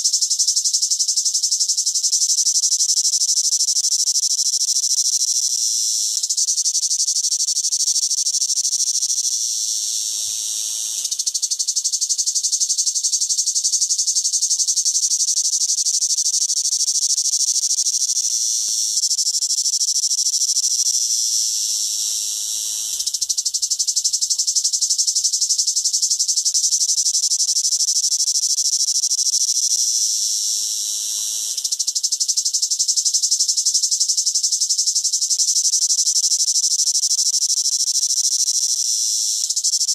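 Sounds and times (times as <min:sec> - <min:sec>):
cicada buzzing: 0:00.0 - 0:39.9.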